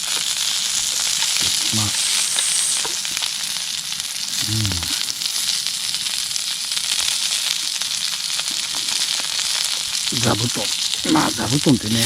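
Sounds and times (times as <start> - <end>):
meat sizzling on a griddle: 0.0 - 12.0.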